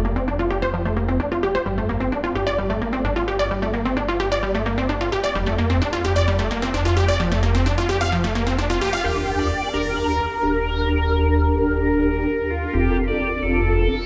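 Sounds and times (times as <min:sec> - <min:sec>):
deep synth bass: 0:00.0 - 0:14.0
synthesizer pulsing sequence: 0:00.0 - 0:14.0.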